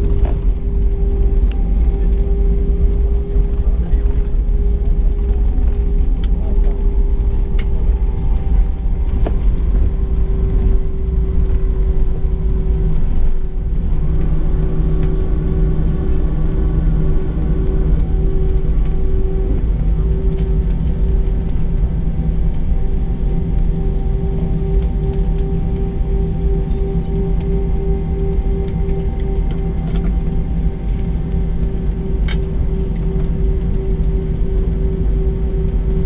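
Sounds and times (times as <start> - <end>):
airliner cabin rumble: 0.0 - 36.0
steady hum: 0.0 - 36.0.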